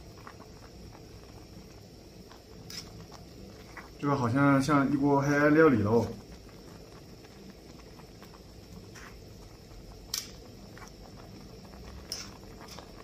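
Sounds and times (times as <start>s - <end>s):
soup bubbling pops: 0.0s - 4.8s, 6.0s - 13.0s
camp stove low hum: 0.0s - 13.0s.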